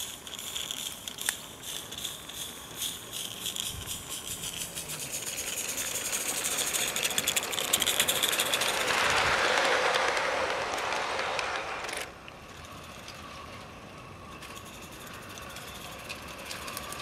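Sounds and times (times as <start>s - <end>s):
small steam locomotive chuffing: 0.0s - 17.0s.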